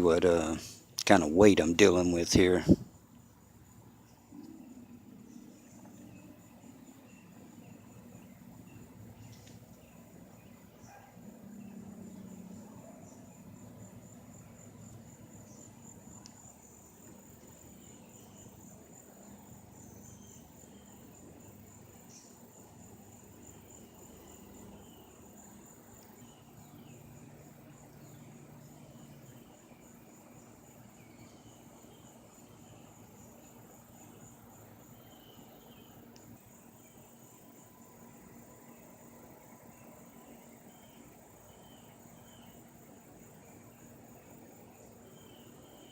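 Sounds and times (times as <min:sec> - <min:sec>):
pulsing insect trill: 0:00.0 - 0:45.9.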